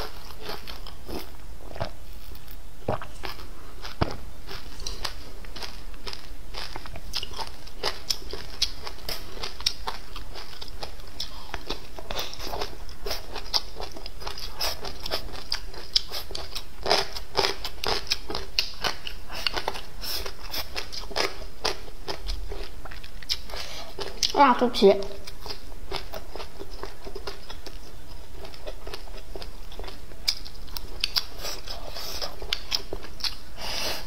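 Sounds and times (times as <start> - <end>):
close chewing with mouth clicks: 0.0 - 2.0, 2.9 - 24.4, 25.2 - 34.0
faint low hum: 0.0 - 34.0.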